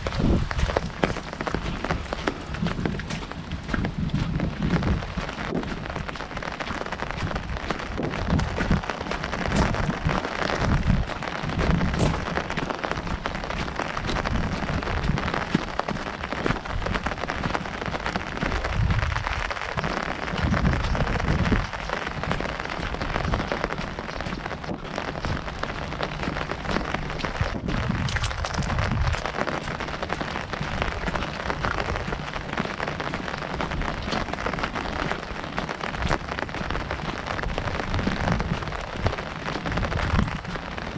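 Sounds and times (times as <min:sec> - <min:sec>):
heavy rain on an umbrella: 0:00.0 - 0:40.9
low rumbles: 0:00.0 - 0:40.9.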